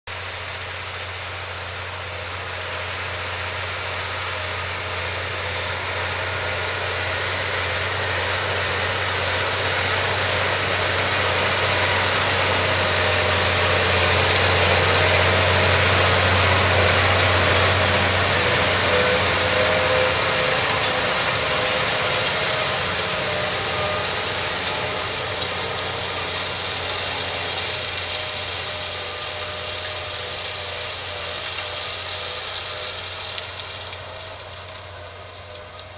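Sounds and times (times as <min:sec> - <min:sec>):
tractor engine under load: 0:00.0 - 0:35.9
discs grinding through soil: 0:04.8 - 0:35.9.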